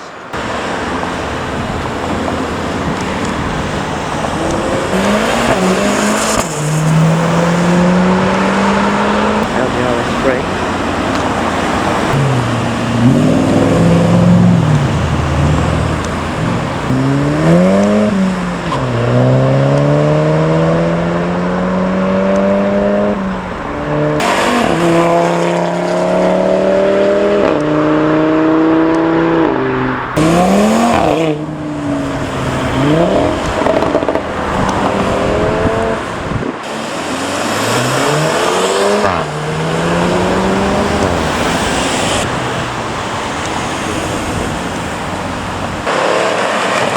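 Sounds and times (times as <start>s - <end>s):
cars accelerating hard: 0.0s - 46.9s
tyre and road noise: 0.0s - 46.9s.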